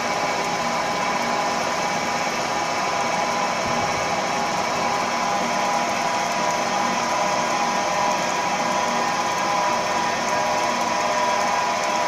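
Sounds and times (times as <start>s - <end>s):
milling machine whine: 0.0s - 12.0s.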